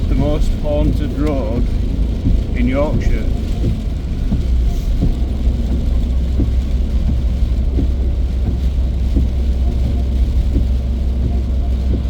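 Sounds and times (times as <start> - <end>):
car engine drone: 0.0 - 12.0
tyres on wet road: 0.0 - 12.0.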